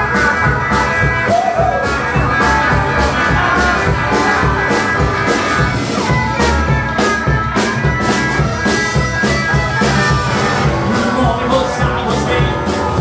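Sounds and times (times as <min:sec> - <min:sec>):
drums hitting: 0:00.0 - 0:13.0
rockabilly band playing: 0:00.0 - 0:13.0.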